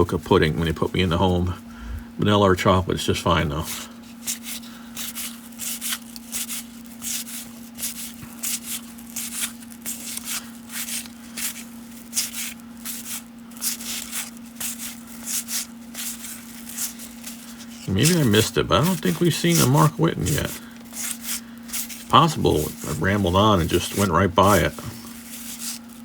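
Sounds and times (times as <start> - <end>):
steady low hum: 0.0 - 26.0
cards flicking by hand: 4.2 - 26.0.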